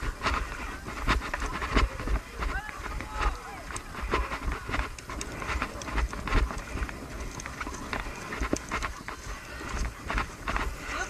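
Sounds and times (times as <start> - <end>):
footsteps on stony dirt track: 0.0 - 11.0.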